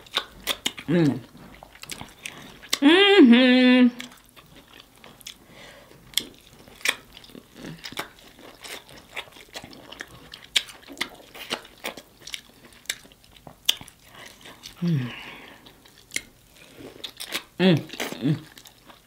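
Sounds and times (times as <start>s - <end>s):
person chewing corn: 0.0s - 2.8s, 3.9s - 19.0s.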